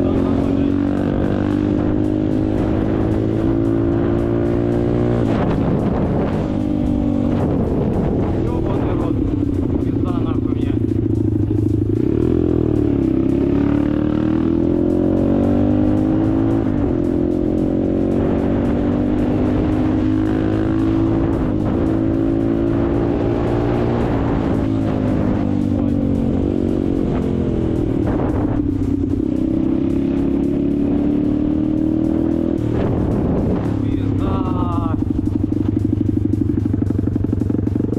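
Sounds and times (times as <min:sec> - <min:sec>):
steady low drone: 0:00.0 - 0:37.9
vehicle engine running: 0:00.0 - 0:37.9.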